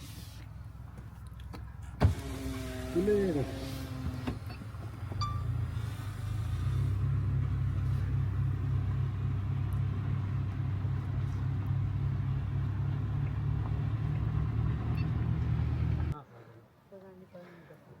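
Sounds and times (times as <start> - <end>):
car engine and road rumble: 0.0 - 16.2.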